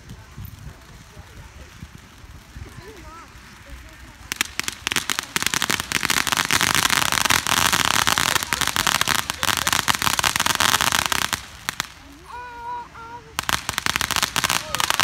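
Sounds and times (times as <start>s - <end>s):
firework fountain crackling: 0.0s - 15.0s.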